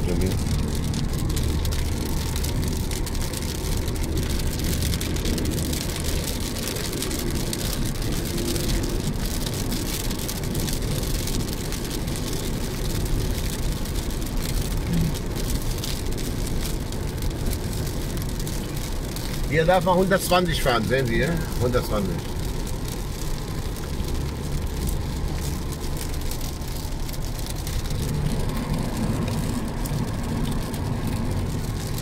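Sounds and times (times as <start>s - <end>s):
low engine rumble: 0.0s - 32.0s
raindrops ticking on windshield: 0.0s - 32.0s
tyre hiss on wet road: 0.1s - 32.0s.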